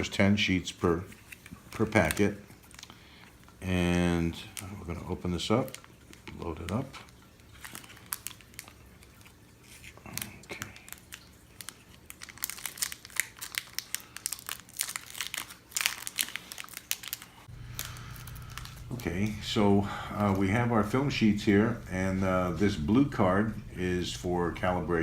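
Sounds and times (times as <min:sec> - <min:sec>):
plastic wrapper crinkling: 0:00.8 - 0:25.0.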